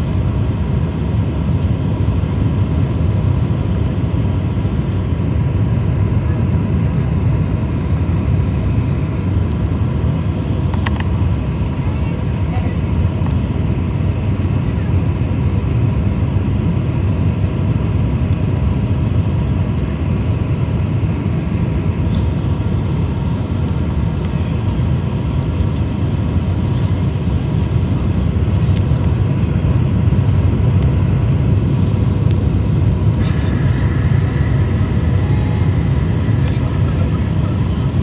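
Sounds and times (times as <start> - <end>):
airliner cabin rumble: 0.0 - 38.0
faint steady whine: 0.0 - 38.0.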